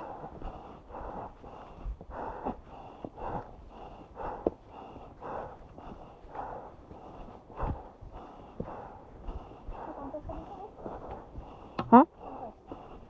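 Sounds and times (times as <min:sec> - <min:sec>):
person panting: 0:00.0 - 0:13.0.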